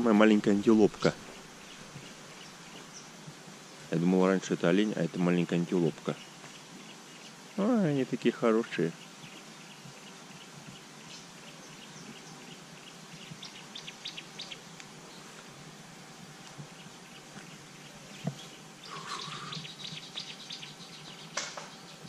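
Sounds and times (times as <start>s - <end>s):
wild birds chirping: 0.0s - 22.0s.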